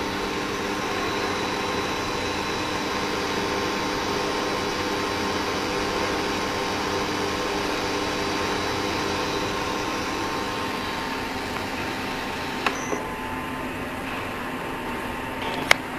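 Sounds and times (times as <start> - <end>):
cooktop hum: 0.0 - 15.9.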